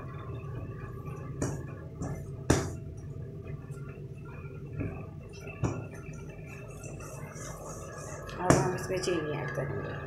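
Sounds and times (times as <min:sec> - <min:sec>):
thick mixture being stirred: 0:00.7 - 0:09.1.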